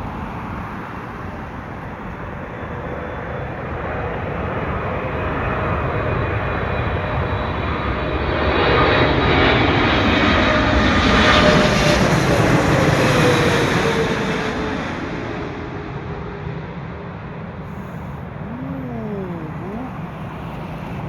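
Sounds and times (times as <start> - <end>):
faint whining engine tones: 0.0 - 14.2, 15.7 - 21.0.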